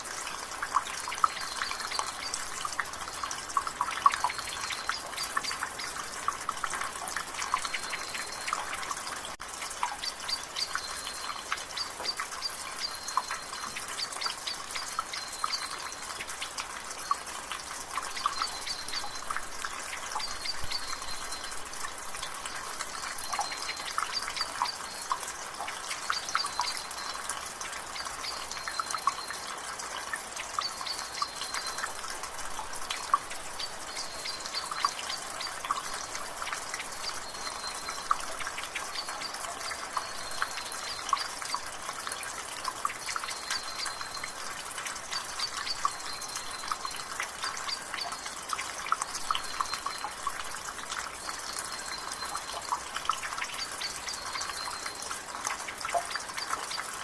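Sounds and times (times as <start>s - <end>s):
rainwater dripping from gutter: 0.0s - 57.0s
soft rain hiss: 0.0s - 57.0s.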